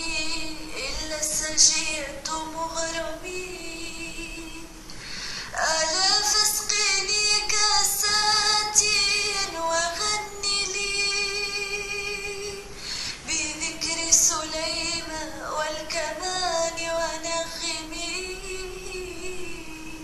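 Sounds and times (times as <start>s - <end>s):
woman singing with vibrato: 0.0s - 20.0s.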